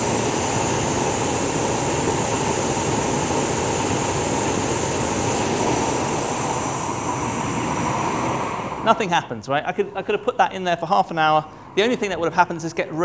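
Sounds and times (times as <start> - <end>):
gas burner flame rushing: 0.0 - 13.0.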